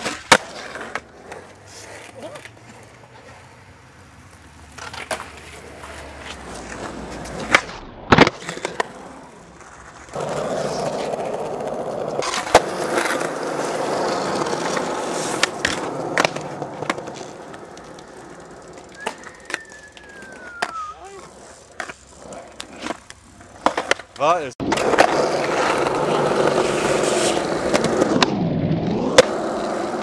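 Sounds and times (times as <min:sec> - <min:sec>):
skateboard clacking on ground: 0:00.0 - 0:03.5, 0:04.2 - 0:30.0
skateboard wheels rolling: 0:00.0 - 0:30.0.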